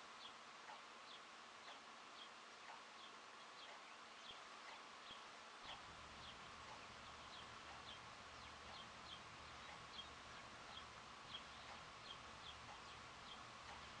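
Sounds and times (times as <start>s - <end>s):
small songbirds chirping: 0.0s - 14.0s
steady hiss: 0.0s - 14.0s.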